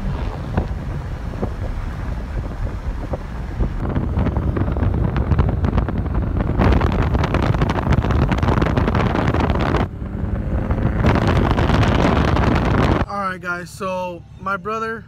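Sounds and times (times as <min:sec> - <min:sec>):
wind rushing over microphone: 0:00.0 - 0:13.2
car road noise: 0:00.0 - 0:15.0.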